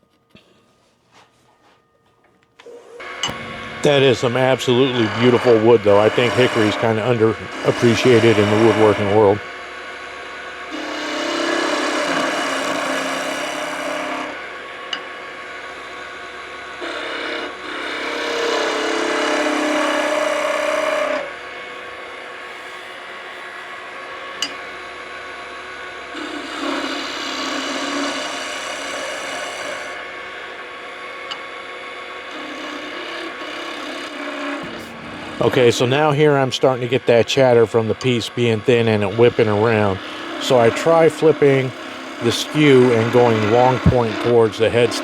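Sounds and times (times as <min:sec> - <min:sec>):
wood lathe humming: 0:02.6 - 0:45.0
chisel cutting spinning wood: 0:02.7 - 0:45.0.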